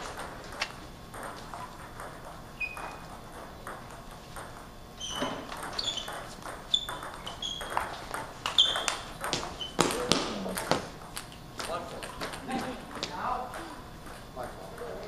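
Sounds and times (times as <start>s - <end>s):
table tennis ball hits: 0.0s - 14.2s.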